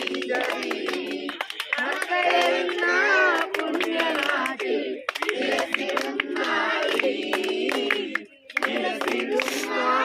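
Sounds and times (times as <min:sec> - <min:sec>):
hand claps: 0:00.0 - 0:09.8
group singing without instruments: 0:00.0 - 0:10.0.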